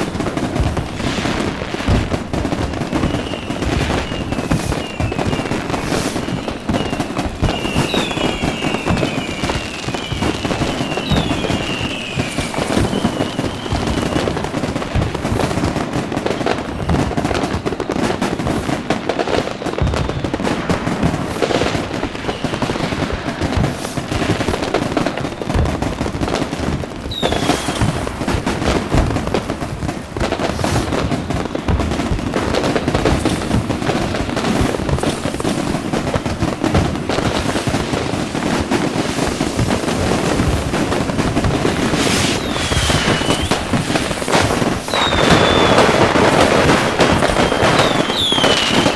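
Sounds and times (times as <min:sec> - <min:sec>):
whistling rockets: 0:00.0 - 0:17.7, 0:19.3 - 0:25.9, 0:27.0 - 0:28.7, 0:32.8 - 0:48.9
fireworks bangs and crackling: 0:00.0 - 0:48.9.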